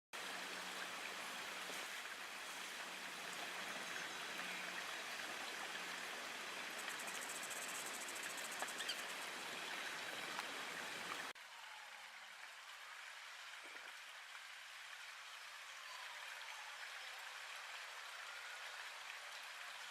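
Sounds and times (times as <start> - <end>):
outdoor bush ambience hiss: 0.2 - 19.9.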